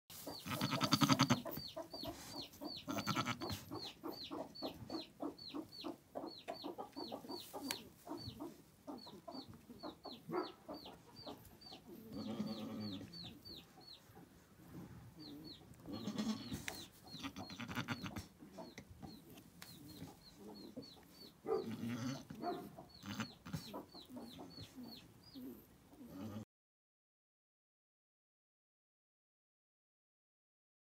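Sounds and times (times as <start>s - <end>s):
baby chick peeping: 0.1s - 26.1s.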